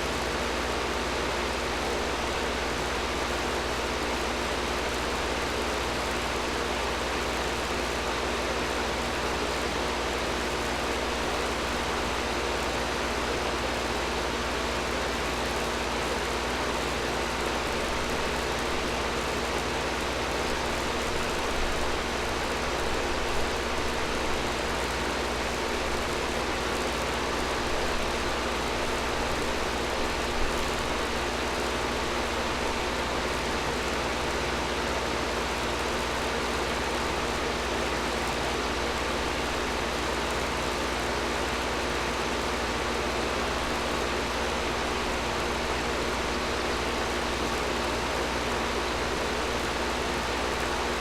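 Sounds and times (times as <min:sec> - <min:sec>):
air conditioner running: 0:00.0 - 0:51.0.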